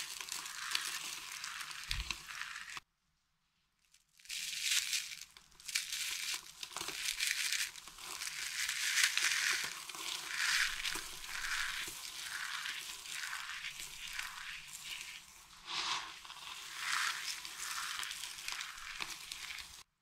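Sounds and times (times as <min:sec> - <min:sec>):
dry soap crumbling crunch: 0:00.0 - 0:02.8, 0:03.8 - 0:19.9.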